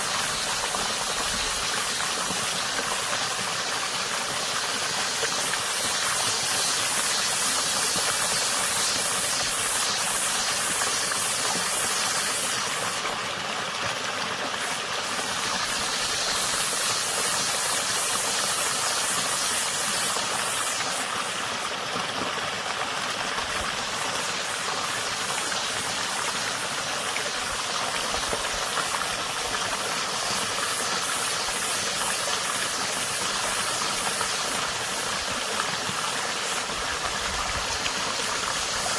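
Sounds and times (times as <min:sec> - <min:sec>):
cicada buzzing: 0:00.0 - 0:13.1, 0:14.6 - 0:21.7, 0:23.8 - 0:38.9
stream water running: 0:00.0 - 0:38.9.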